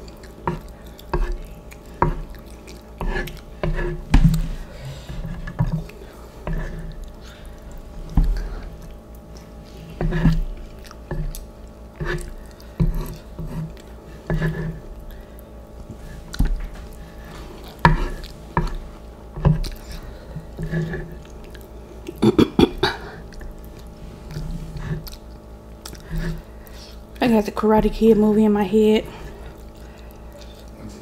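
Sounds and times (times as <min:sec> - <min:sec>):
wet chewing and mouth sounds: 0:00.0 - 0:27.2, 0:29.2 - 0:31.0
faint steady hum: 0:00.0 - 0:31.0.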